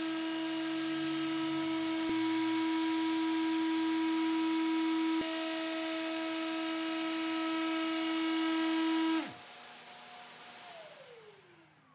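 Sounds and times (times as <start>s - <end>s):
dust extractor humming: 0.0s - 11.9s
orbital sander whining: 0.0s - 11.9s.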